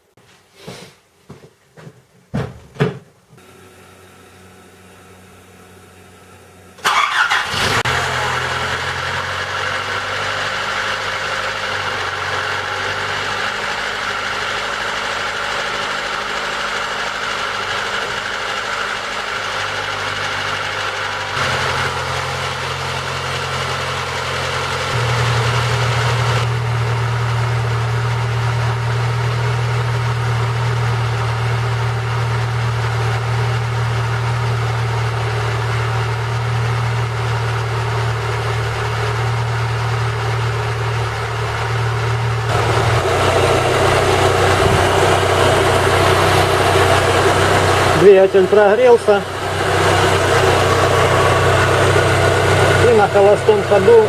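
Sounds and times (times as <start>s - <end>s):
petrol engine idling: 3.4s - 54.0s.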